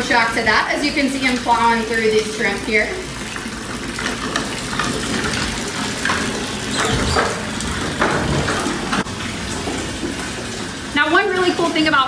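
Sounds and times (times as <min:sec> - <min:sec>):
water pouring into plastic tub: 0:01.0 - 0:12.0.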